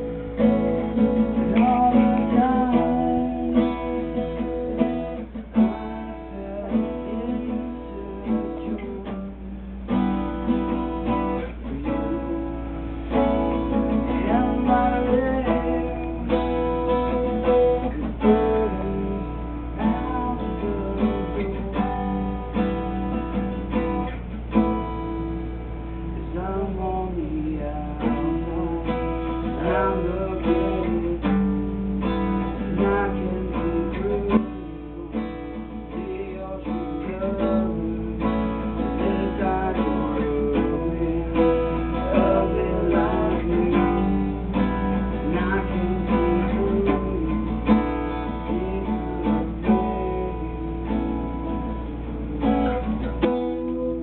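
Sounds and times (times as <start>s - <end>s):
person singing: 0.0s - 9.8s, 11.2s - 22.5s, 26.2s - 54.0s
acoustic guitar strumming: 0.0s - 54.0s.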